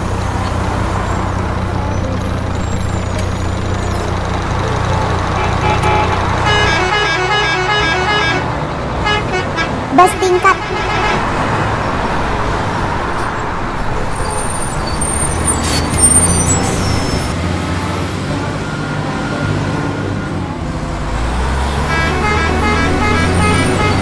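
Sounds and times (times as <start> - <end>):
buses and cars passing: 0.0 - 24.0.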